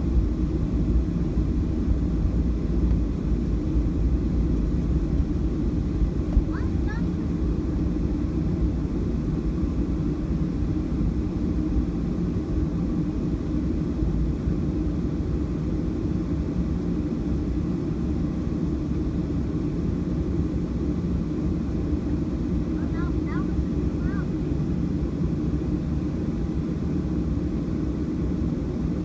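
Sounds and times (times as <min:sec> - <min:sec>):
airplane cabin engine rumble: 0:00.0 - 0:29.0.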